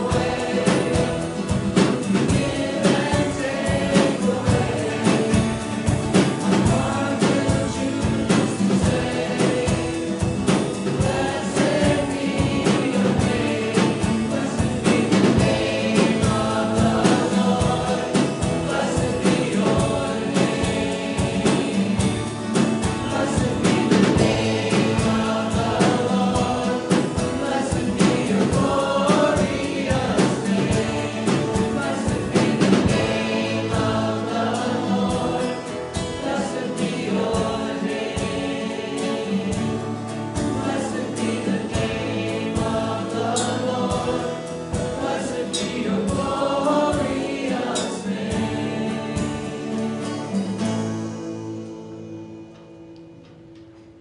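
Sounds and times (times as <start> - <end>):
congregation singing: 0.0 - 54.0
worship band playing: 0.0 - 54.0.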